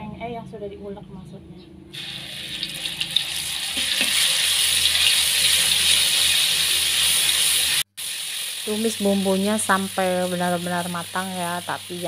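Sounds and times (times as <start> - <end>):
spice paste sizzling in oil: 2.0 - 12.0.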